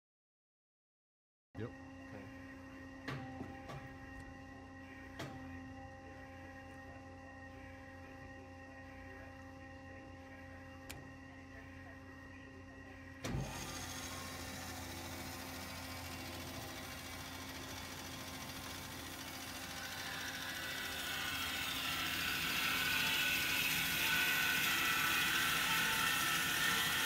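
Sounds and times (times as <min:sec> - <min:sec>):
band saw electrical hum: 0:01.6 - 0:27.0.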